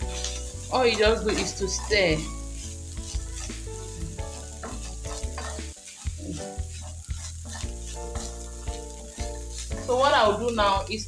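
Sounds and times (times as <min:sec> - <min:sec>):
wooden spatula scraping pan: 0:00.0 - 0:10.8
food sizzling in frying pan: 0:00.0 - 0:11.0.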